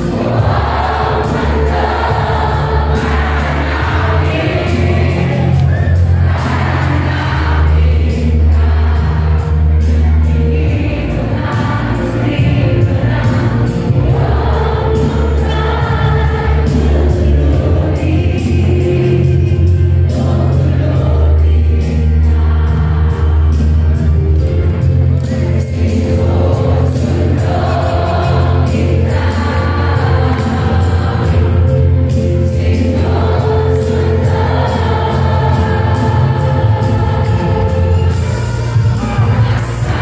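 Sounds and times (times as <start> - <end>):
amplified backing music: 0.0 - 40.0
group of voices singing: 0.0 - 40.0.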